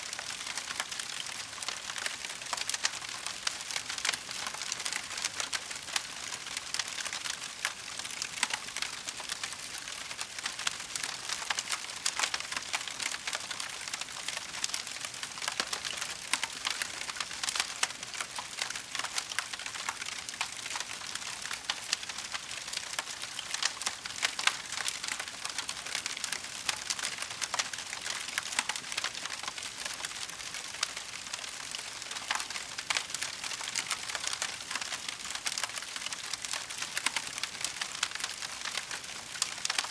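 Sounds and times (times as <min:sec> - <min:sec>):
fire crackling and popping: 0:00.2 - 0:39.9.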